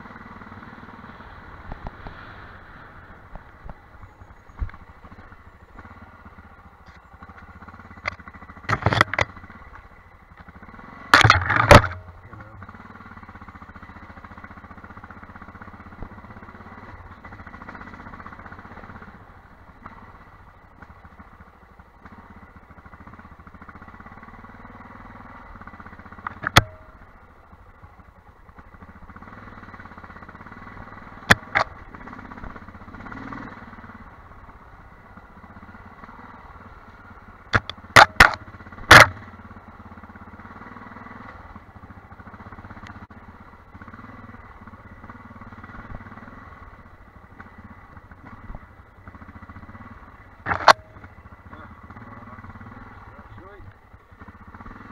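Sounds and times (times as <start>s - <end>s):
motorbike engine running: 0.0s - 54.9s.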